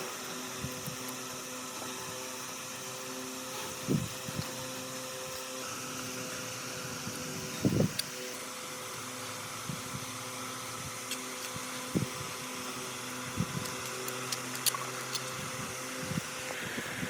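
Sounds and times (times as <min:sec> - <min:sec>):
small electric motor running: 0:00.0 - 0:17.0.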